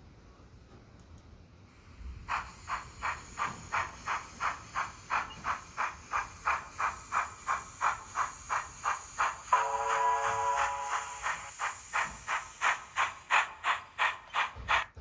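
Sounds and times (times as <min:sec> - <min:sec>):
steam exhaust chuffs from speaker: 0:01.8 - 0:14.9.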